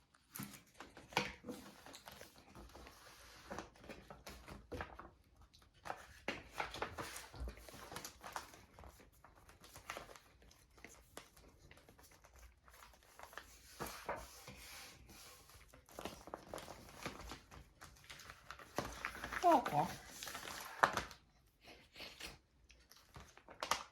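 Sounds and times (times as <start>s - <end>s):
paper rustling and crinkling: 0.0s - 23.9s.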